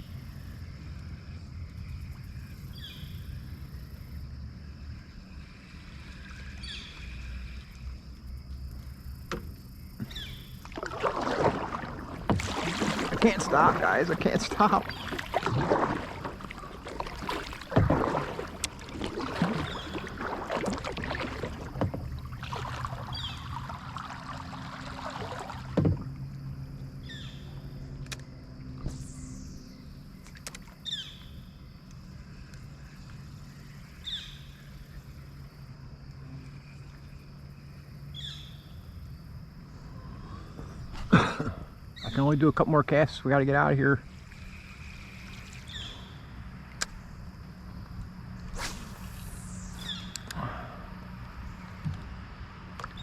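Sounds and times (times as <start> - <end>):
low engine drone: 0.0 - 53.0
water sloshing and splashing: 4.8 - 38.1, 38.8 - 53.0.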